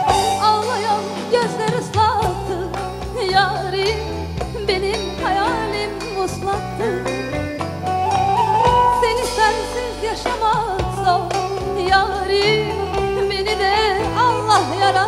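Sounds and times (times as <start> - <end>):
woman singing into microphone: 0.0 - 7.4, 8.2 - 15.0
instrumental backing: 0.0 - 15.0.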